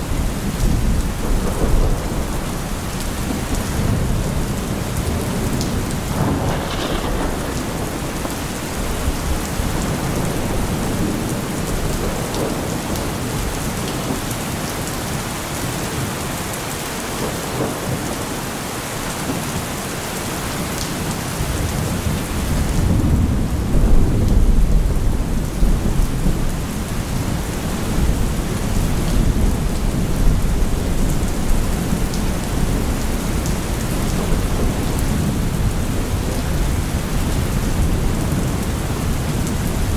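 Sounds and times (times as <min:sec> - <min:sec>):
deep thunder rumble: 0:00.0 - 0:14.2, 0:21.4 - 0:39.9
steady rain: 0:00.0 - 0:39.9.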